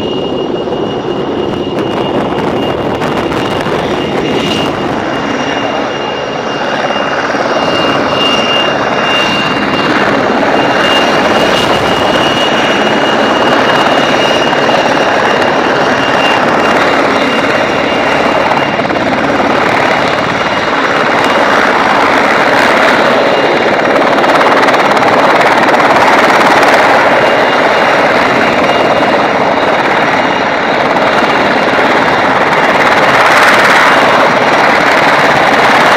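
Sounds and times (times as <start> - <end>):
helicopter rotor and engine: 0.0 - 35.9
high steady whine: 0.0 - 35.9.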